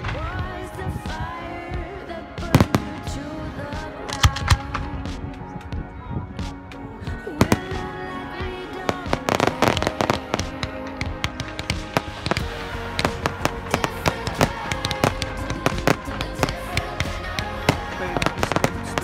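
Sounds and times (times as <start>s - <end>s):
fireworks crackling and banging: 0.0s - 19.0s
music with held notes: 0.0s - 19.0s.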